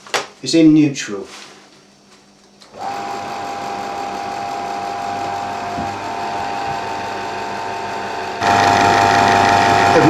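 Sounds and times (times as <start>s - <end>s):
projector motor and fan whirring: 0.0s - 10.0s.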